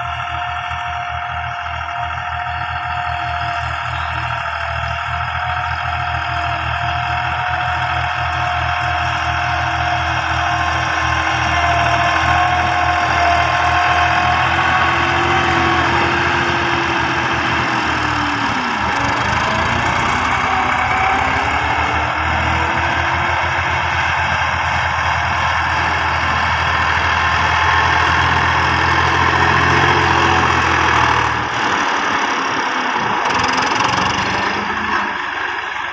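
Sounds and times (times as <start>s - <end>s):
tractor engines running under load: 0.0s - 35.9s.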